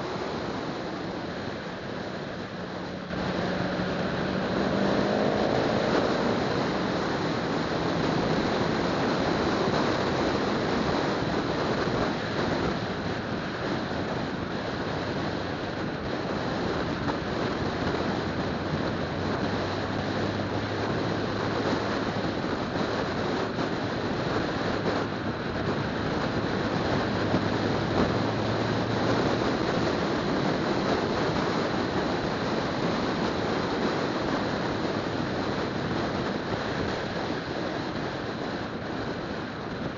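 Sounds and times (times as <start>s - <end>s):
low engine hum: 0.0s - 39.9s
tyre noise on road: 0.0s - 39.9s
wind rush: 0.0s - 39.9s.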